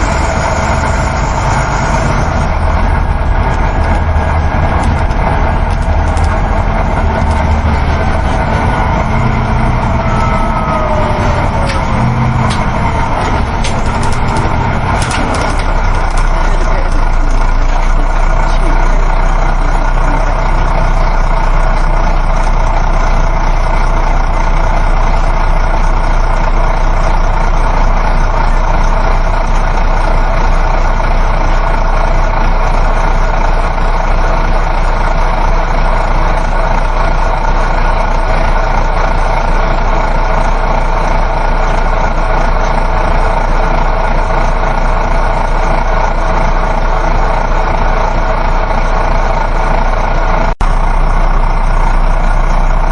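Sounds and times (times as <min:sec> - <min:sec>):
bus engine hum: 0:00.0 - 0:52.9
road noise rumble: 0:00.0 - 0:52.9.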